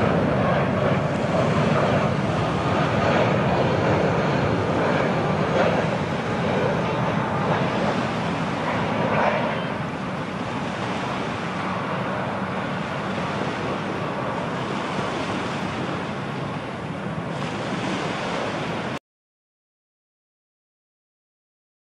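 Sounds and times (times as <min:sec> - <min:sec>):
jet airliner engines roaring: 0:00.0 - 0:19.0
wind on microphone: 0:00.0 - 0:19.0.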